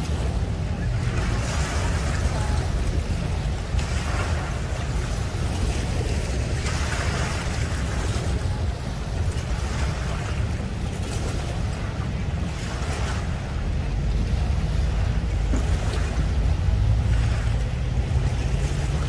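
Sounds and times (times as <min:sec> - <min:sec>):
water churning: 0:00.0 - 0:19.0
wind buffeting microphone: 0:00.0 - 0:19.0.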